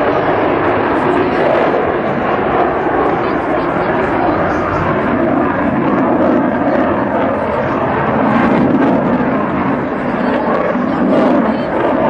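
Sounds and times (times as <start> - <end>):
jet engine roaring: 0.0 - 12.0.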